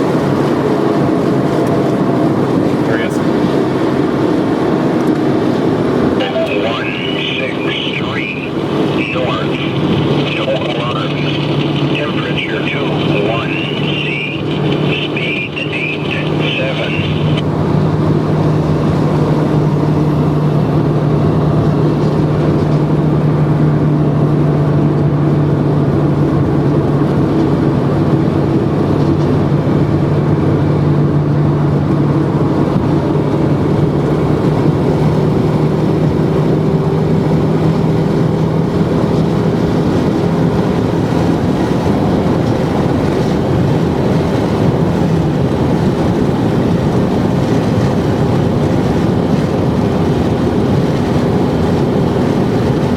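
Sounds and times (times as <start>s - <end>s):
car road and wind noise: 0.0s - 52.9s
low engine drone: 0.0s - 52.9s.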